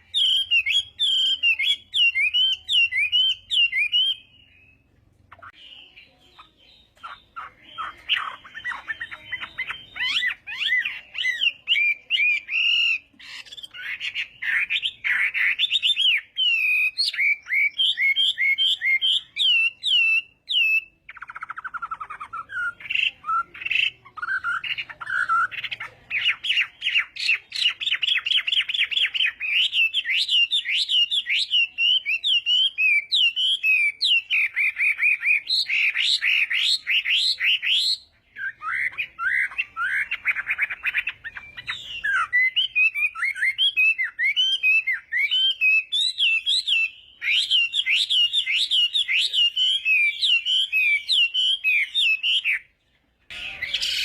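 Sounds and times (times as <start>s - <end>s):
bird singing whistles and trills: 0.0s - 52.7s.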